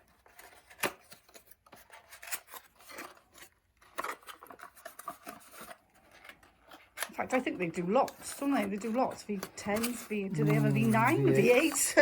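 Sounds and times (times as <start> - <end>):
packaging and plastic parts handled: 0.0 - 12.0.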